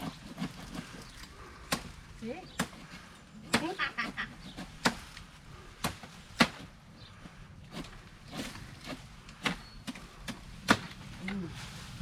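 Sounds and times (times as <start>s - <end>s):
knife chopping branches: 0.0s - 6.8s, 7.6s - 11.5s.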